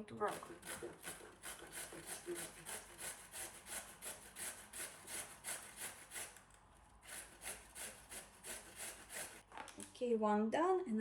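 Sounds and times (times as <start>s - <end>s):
carrot rasping on grater: 0.0s - 9.4s.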